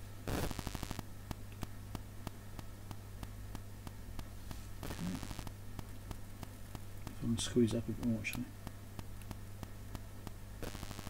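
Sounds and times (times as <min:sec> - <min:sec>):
steady electrical hum: 0:00.0 - 0:11.0
soldering iron crackle: 0:00.2 - 0:11.0
faint ticks: 0:00.4 - 0:11.0.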